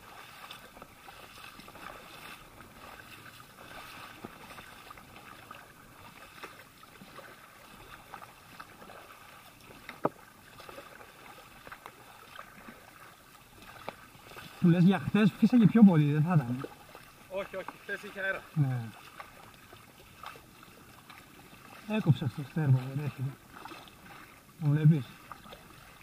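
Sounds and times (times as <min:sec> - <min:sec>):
kayak paddle strokes in water: 0:00.0 - 0:26.0
sea water lapping against hull: 0:00.0 - 0:26.0.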